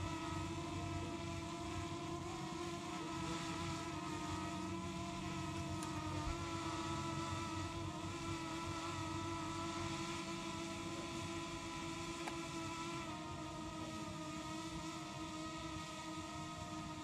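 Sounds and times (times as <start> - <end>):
steady motor drone: 0.0 - 17.0.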